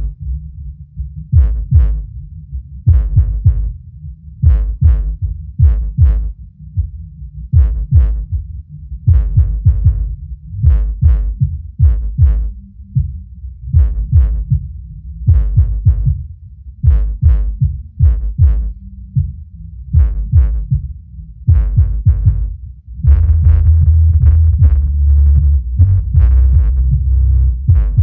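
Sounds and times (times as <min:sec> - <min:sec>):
buzzing on bass notes: 0:00.0 - 0:28.0
punchy bass notes from subwoofer: 0:00.0 - 0:28.0.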